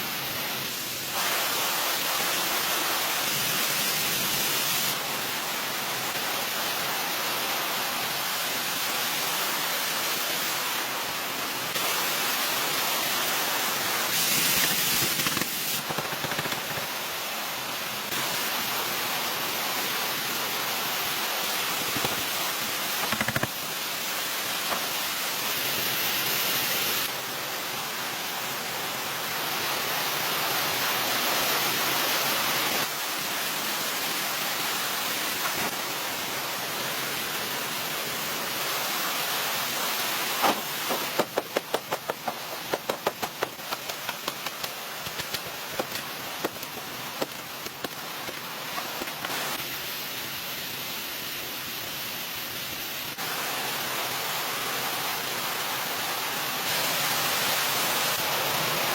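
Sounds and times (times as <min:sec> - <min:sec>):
steady rushing hiss: 0:00.0 - 0:58.9.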